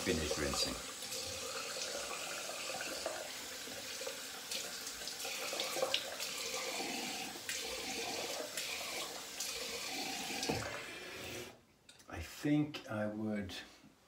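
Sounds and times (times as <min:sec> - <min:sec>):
tap water running into sink: 0:00.0 - 0:11.5.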